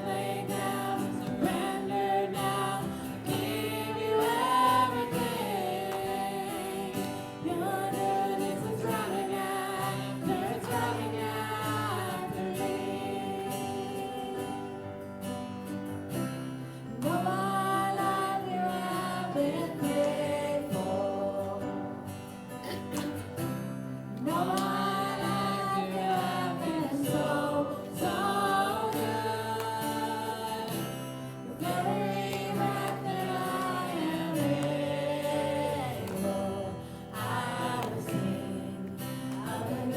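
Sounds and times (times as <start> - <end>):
voices singing together: 0.0 - 39.9.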